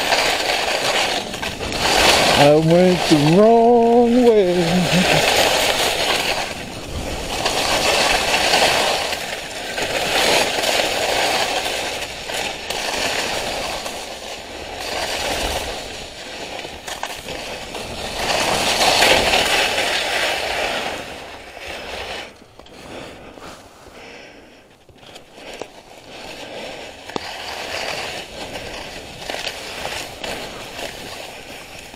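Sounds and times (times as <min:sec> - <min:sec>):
skis scraping over snow: 0:00.0 - 0:31.9.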